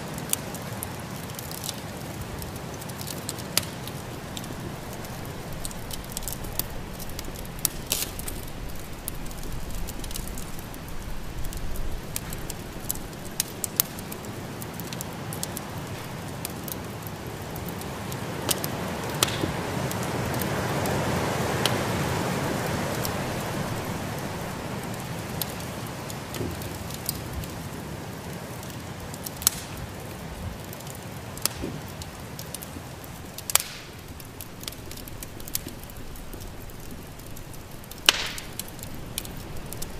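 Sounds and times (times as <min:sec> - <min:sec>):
snowstorm wind hiss: 0:00.0 - 0:39.9
wood fire crackling and popping: 0:00.0 - 0:39.9.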